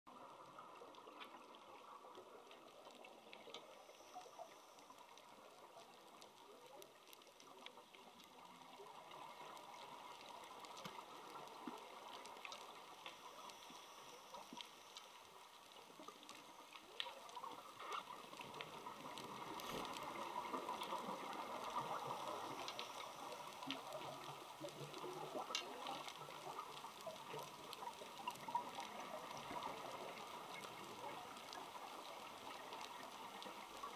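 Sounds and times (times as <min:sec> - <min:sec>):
clicks and crackles: 0:00.1 - 0:33.9
low underwater hiss: 0:00.1 - 0:33.9.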